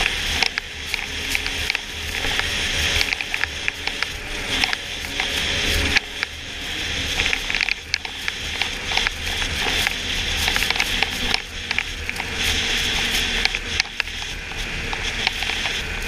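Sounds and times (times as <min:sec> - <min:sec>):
sharp clicks and crackles: 0:00.0 - 0:16.0
snowmobile riding rumble: 0:00.0 - 0:16.0.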